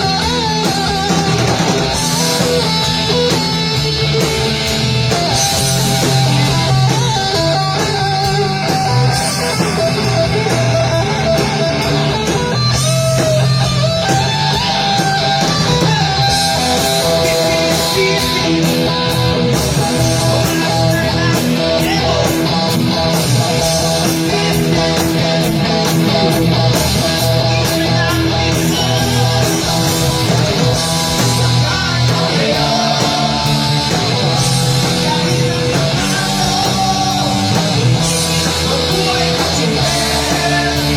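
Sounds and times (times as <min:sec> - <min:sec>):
bass guitar: 0:00.0 - 0:40.9
electric guitar lines: 0:00.0 - 0:40.9.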